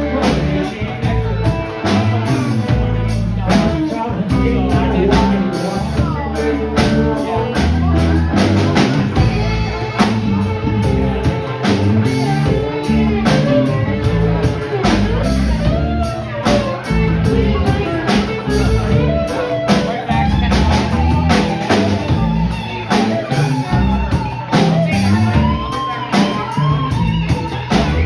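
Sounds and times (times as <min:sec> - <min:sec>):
drum kit: 0:00.0 - 0:28.0
electric guitars: 0:00.0 - 0:28.0.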